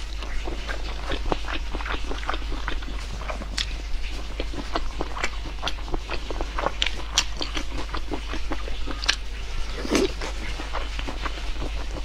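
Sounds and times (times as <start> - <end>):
wet mouth chewing clicks: 0.0 - 12.0.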